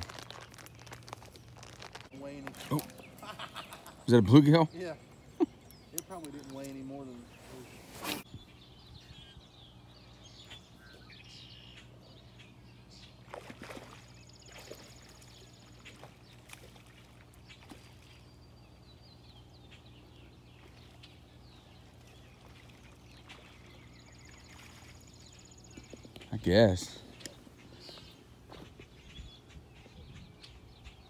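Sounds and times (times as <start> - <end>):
bird calls: 0.0 - 31.0
steady low hum: 0.0 - 31.0.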